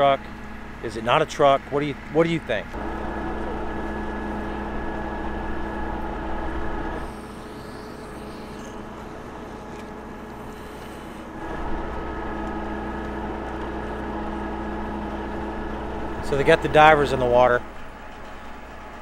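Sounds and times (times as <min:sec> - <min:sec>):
engine idling: 0:02.7 - 0:19.0.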